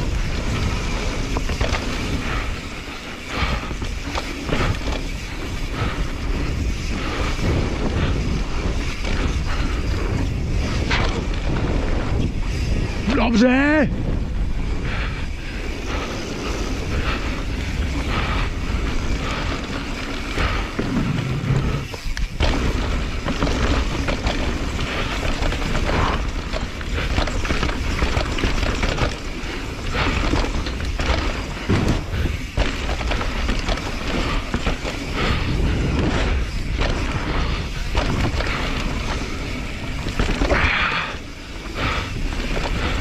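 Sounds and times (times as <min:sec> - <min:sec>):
bike knocks and rattles: 0:00.0 - 0:13.1, 0:15.4 - 0:43.0
tyres rolling on loose dirt: 0:00.0 - 0:43.0
wind buffeting microphone: 0:00.0 - 0:43.0.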